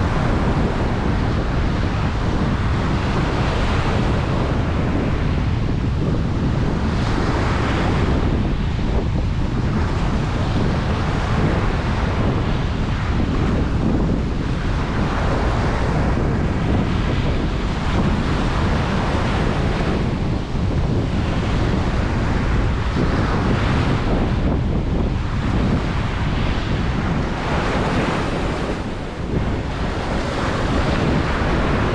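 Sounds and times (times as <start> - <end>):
ocean waves washing onto beach: 0.0 - 31.9
wind buffeting microphone: 0.0 - 31.9.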